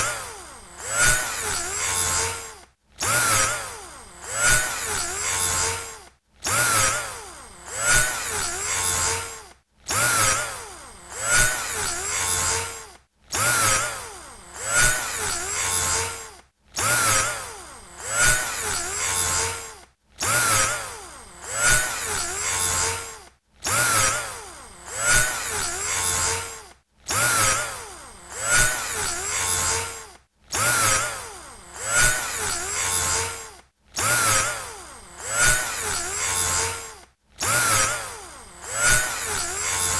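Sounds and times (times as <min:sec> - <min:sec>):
electric drill whirring: 0:00.0 - 0:39.9.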